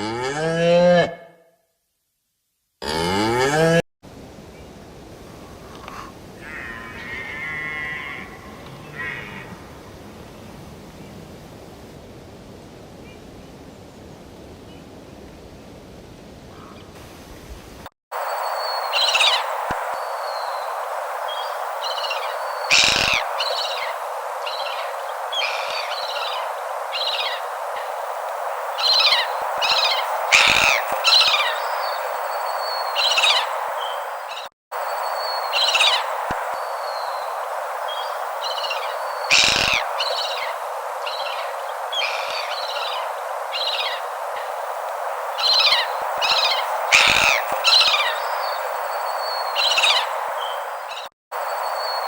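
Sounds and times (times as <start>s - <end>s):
steady hiss: 4.1s - 52.0s.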